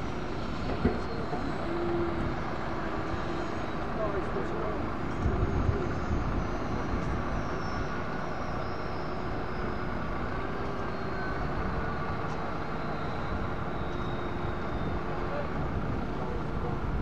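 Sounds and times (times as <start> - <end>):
diesel engines running: 0.0 - 17.0
faint high whine: 0.0 - 17.0.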